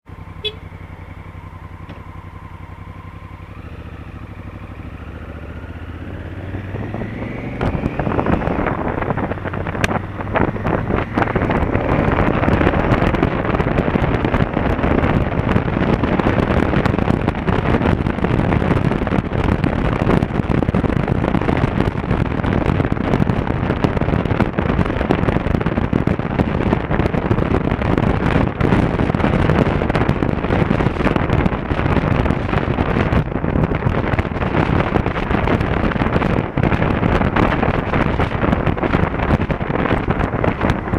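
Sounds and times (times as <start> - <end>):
motorcycle engine accelerating: 0.0 - 40.9
wind rush on microphone: 0.1 - 40.9.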